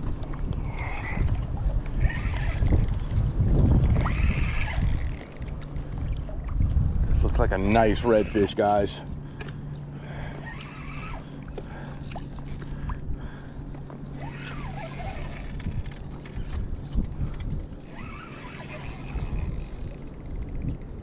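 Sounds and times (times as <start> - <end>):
low steady hum: 0.0 - 21.0
water sloshing and lapping: 0.0 - 21.0.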